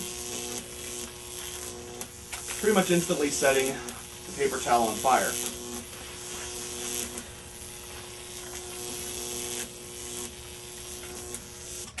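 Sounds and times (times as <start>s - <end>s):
electric arc buzzing with hiss: 0.0s - 12.0s.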